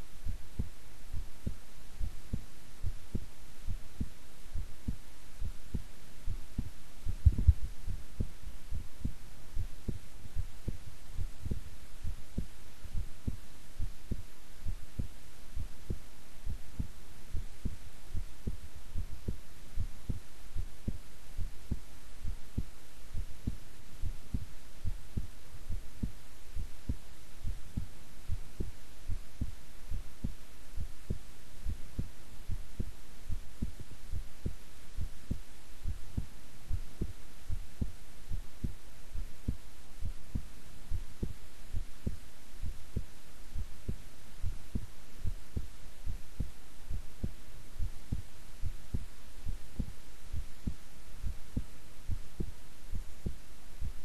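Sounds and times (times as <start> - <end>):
heart beating: 0.2 - 54.0.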